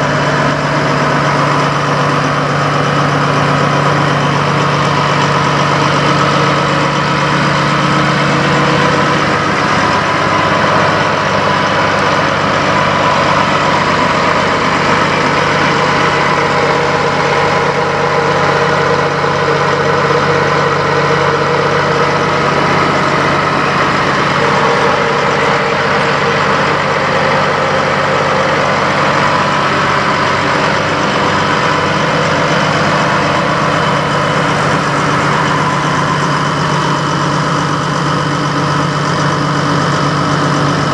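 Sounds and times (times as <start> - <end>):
truck diesel engine idling: 0.0 - 40.9.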